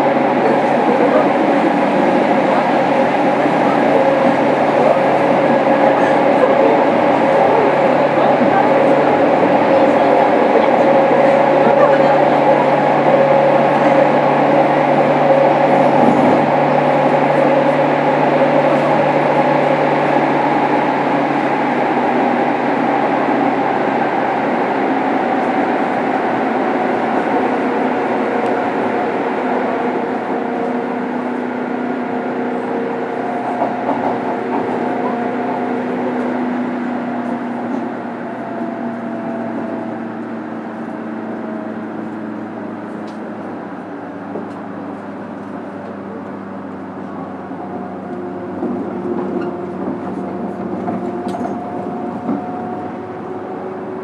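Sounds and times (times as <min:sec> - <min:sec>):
train rolling noise: 0:00.0 - 0:54.0.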